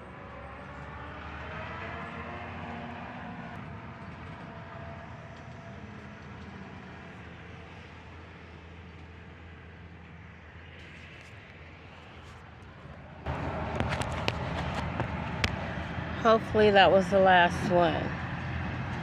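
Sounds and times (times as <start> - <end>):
truck passing: 0.0 - 8.8, 11.7 - 19.0.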